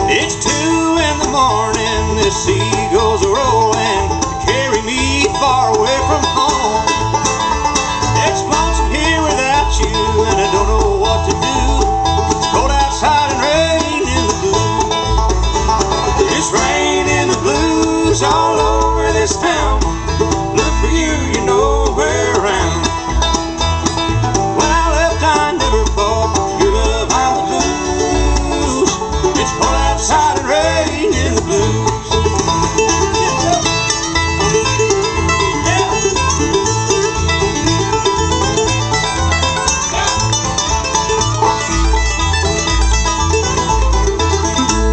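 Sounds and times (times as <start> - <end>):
acoustic guitar: 0.0 - 44.9
banjo: 0.0 - 44.9
mandolin: 0.0 - 44.9
upright bass: 0.0 - 44.9.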